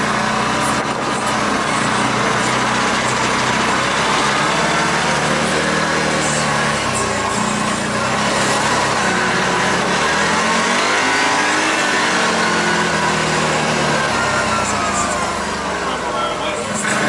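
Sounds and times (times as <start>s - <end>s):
road and wind noise: 0.0s - 17.0s
vehicle engine running: 0.0s - 17.0s.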